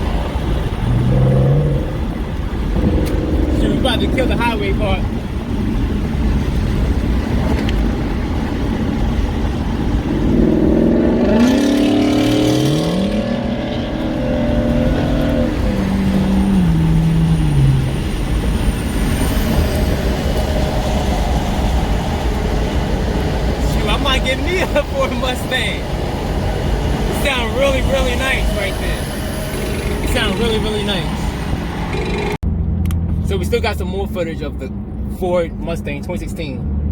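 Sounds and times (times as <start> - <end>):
car engine accelerating hard: 0.0 - 36.9
road and wind noise: 0.0 - 36.9.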